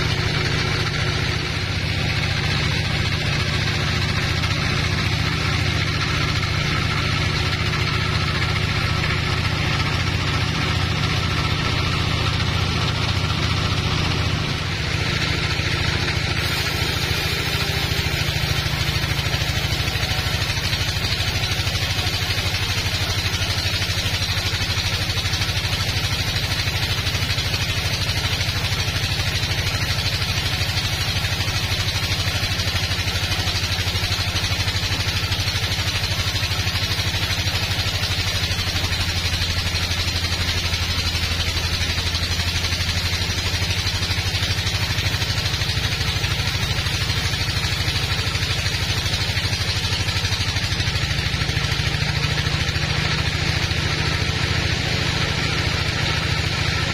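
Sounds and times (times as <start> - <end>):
band saw machine humming: 0.0 - 52.8.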